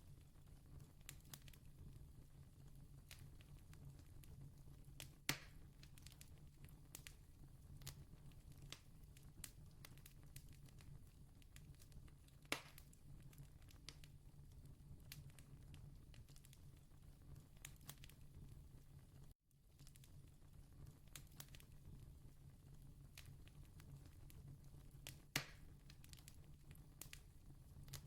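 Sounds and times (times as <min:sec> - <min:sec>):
campfire crackling: 0:00.2 - 0:02.0, 0:02.9 - 0:18.5, 0:19.8 - 0:22.1, 0:23.1 - 0:28.0.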